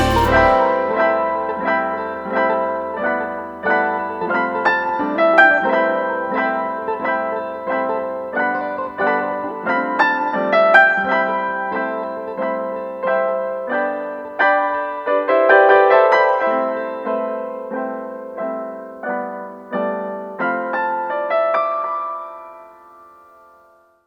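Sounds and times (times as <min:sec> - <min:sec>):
slow piano chords: 0:00.0 - 0:24.0.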